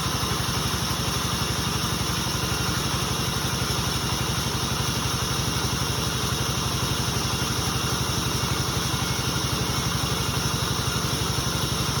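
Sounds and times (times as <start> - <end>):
sawmill engine chugging: 0.0 - 12.0.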